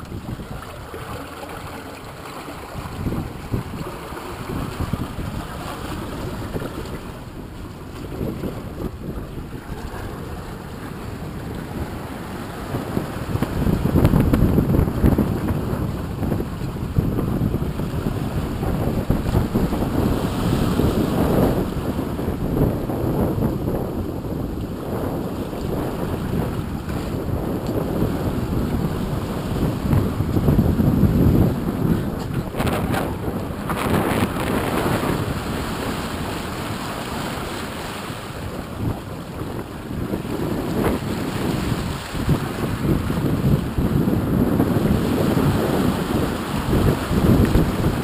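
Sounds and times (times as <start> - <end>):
boat wake rushing: 0.0 - 48.0
wind buffeting microphone: 0.0 - 48.0.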